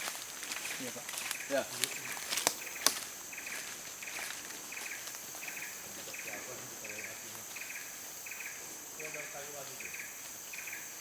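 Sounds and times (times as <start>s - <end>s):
high insect hiss: 0.0s - 11.0s
insect chirping trill: 0.0s - 11.0s.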